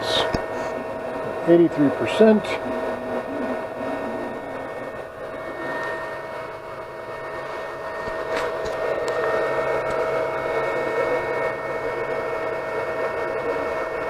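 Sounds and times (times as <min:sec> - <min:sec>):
printer fans and motors whirring: 0:00.0 - 0:14.0.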